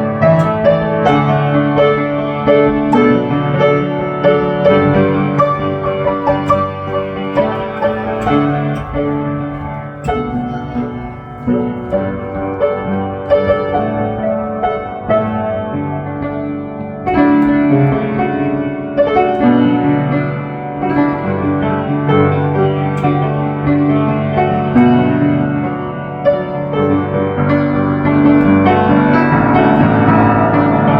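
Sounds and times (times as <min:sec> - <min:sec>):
piano music: 0:00.0 - 0:30.9.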